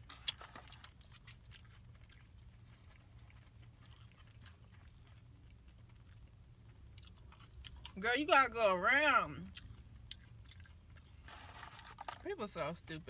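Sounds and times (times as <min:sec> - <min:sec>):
faint chewing: 0:00.0 - 0:08.0, 0:09.4 - 0:12.6
steady low hum: 0:00.0 - 0:13.0.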